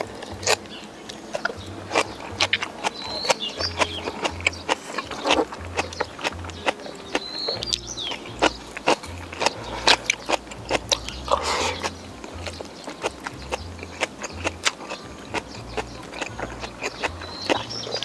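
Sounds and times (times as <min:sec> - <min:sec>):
background music with bass: 0:00.0 - 0:18.0
chewing: 0:00.0 - 0:18.0
mouth clicks and smacks: 0:00.0 - 0:18.0.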